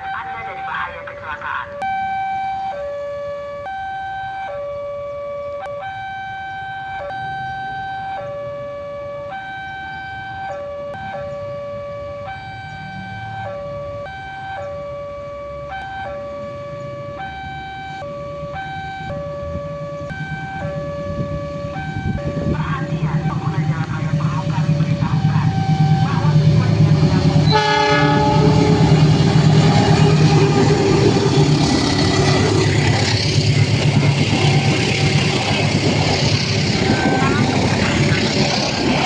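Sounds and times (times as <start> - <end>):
two-tone warning siren: 0.0 - 39.0.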